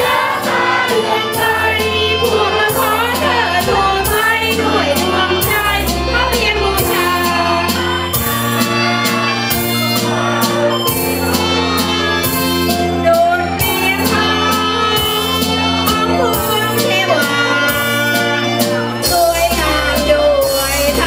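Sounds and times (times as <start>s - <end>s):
song with singing over a beat: 0.0s - 21.0s.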